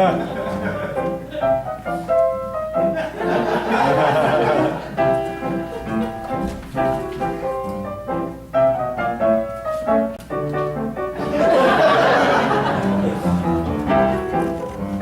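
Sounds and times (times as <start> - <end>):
piano chords and melody: 0.0 - 15.0.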